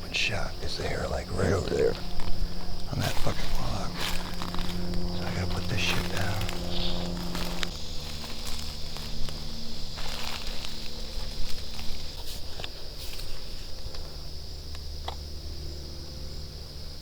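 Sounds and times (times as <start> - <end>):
high-pitched hiss: 0.0 - 15.1
footsteps in brush: 0.6 - 14.3.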